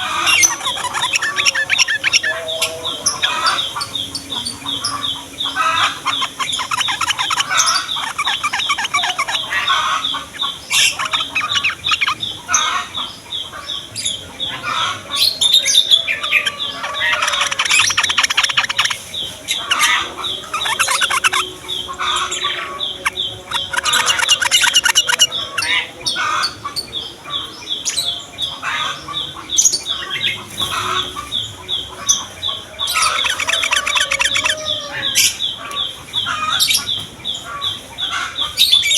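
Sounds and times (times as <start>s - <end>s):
bulbuls singing and chattering: 0.0s - 38.9s.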